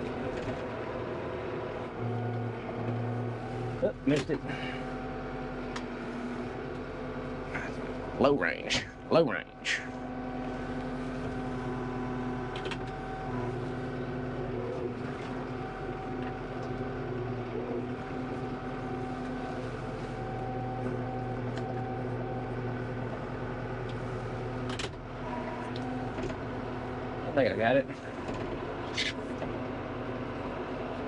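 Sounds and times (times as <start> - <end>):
diesel tractor engine running: 0.0 - 31.0.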